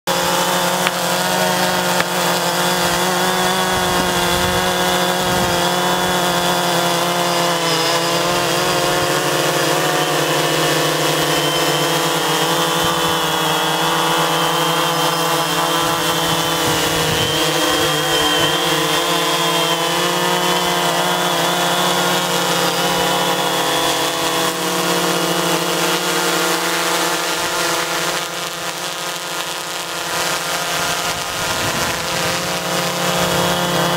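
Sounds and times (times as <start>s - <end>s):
drone propellers buzzing: 0.1s - 33.9s.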